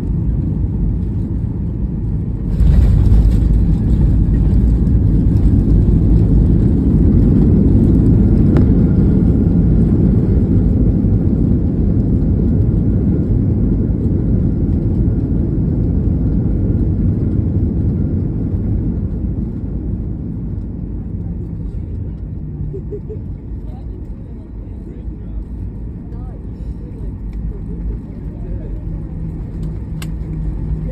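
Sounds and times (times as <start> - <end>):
airliner cabin rumble: 0.0 - 30.9.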